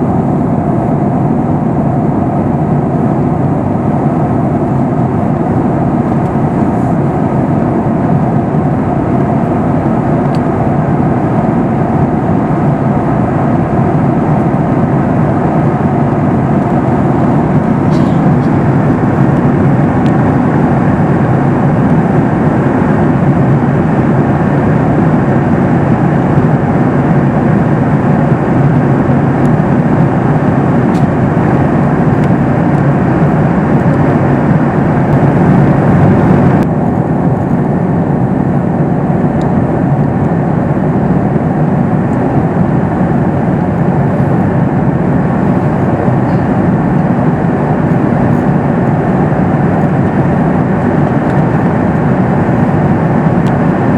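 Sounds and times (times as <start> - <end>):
jet engines humming: 0.0 - 53.9
rush of air in airliner cabin: 0.0 - 53.9.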